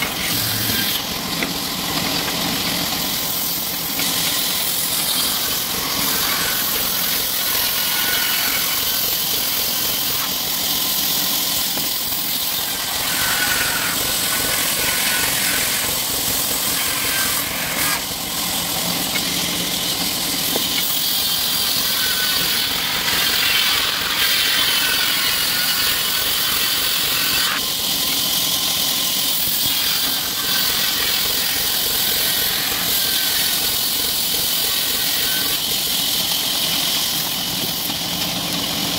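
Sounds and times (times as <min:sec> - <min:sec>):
band saw blade hissing through wood: 0:00.0 - 0:38.9.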